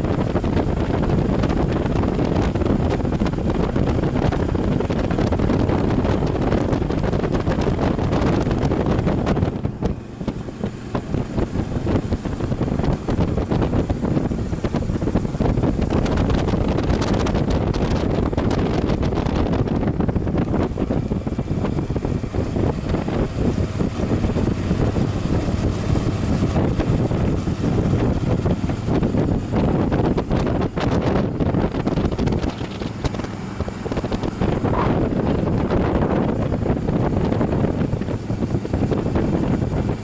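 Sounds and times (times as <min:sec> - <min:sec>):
motorcycle engine cruising: 0:00.0 - 0:40.0
wind buffeting microphone: 0:00.0 - 0:40.0.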